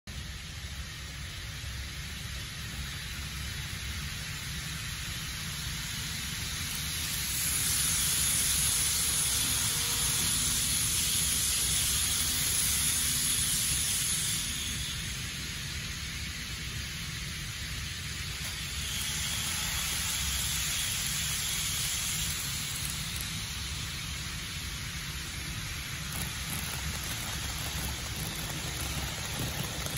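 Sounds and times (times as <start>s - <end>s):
model train wheels and motor hissing: 0.1s - 29.9s.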